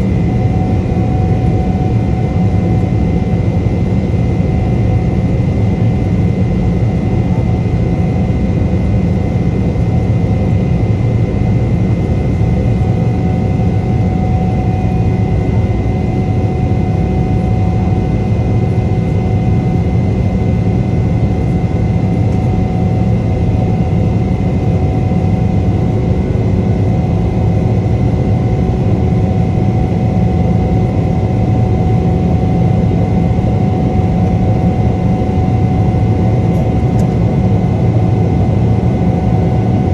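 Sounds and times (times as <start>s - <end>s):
jet engine high whine: 0.0s - 39.9s
jet engine low rumble: 0.0s - 39.9s.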